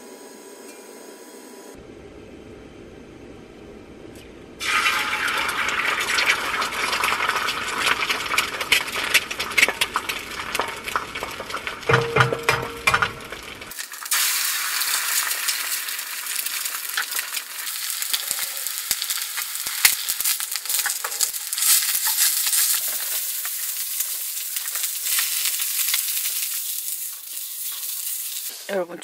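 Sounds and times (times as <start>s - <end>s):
eggs sizzling in oil: 4.6s - 28.8s.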